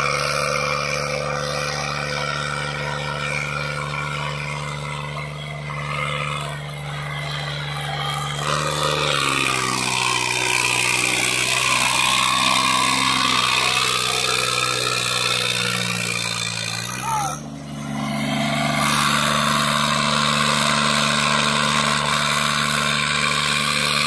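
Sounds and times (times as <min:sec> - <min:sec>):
tractor diesel engine labouring: 0:00.0 - 0:24.0.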